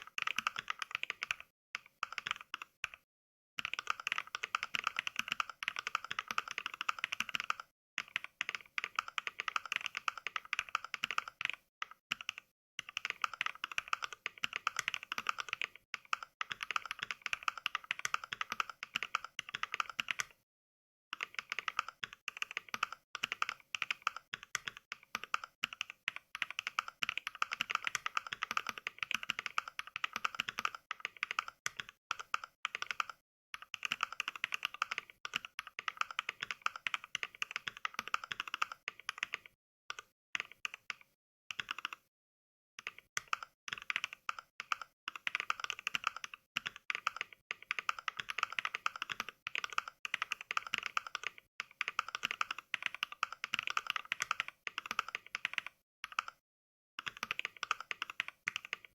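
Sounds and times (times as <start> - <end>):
mechanical keyboard clicks: 0.0 - 3.0, 3.6 - 20.4, 21.2 - 42.0, 42.8 - 56.4, 57.0 - 58.9.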